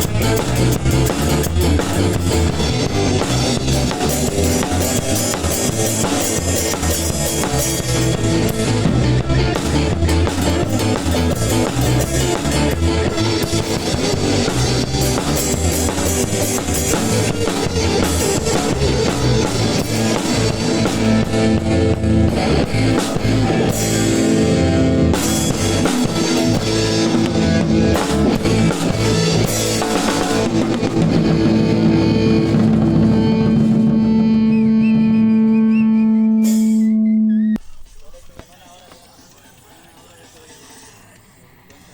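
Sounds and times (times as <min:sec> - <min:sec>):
ska band playing: 0:00.0 - 0:38.0.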